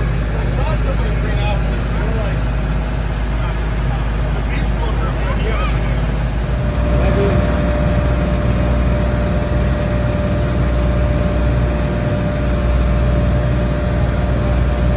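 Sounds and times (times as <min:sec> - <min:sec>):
large engine rumbling: 0:00.0 - 0:14.9
mid-pitched hum: 0:00.0 - 0:14.9.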